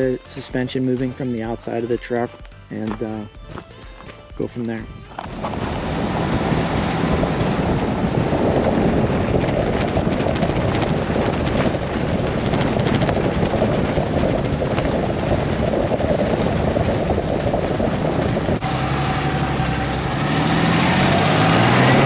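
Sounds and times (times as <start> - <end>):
truck driving on dirt road: 0.0 - 22.0
wind buffeting microphone: 3.0 - 22.0.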